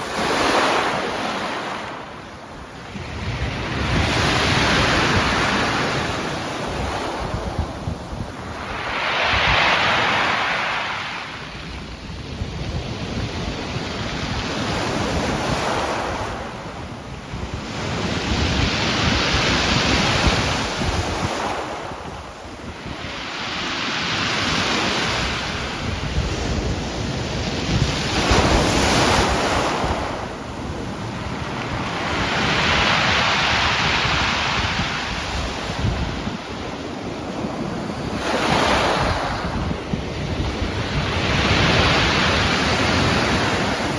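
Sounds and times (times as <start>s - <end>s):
waves breaking on shore: 0.0s - 43.9s
wind buffeting microphone: 2.0s - 43.9s.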